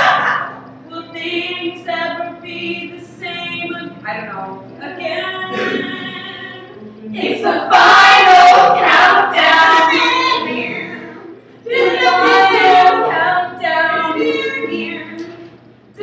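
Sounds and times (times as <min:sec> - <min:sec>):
women singing together: 0:00.0 - 0:16.0.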